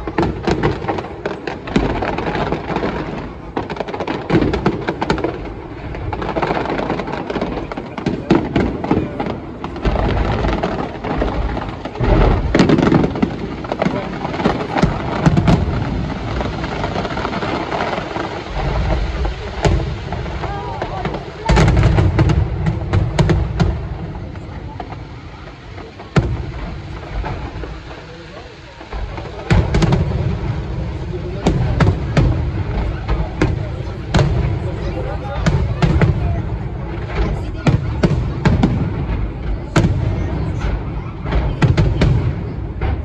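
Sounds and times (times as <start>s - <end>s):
fireworks crackling: 0.0s - 43.0s
fireworks exploding: 0.0s - 43.0s
heavy fireworks booms: 0.0s - 43.0s.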